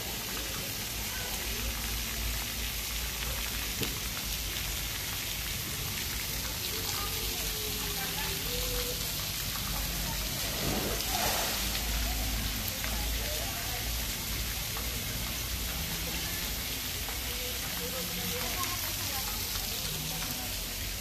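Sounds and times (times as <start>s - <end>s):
fountain water spraying into pool: 0.0s - 21.0s.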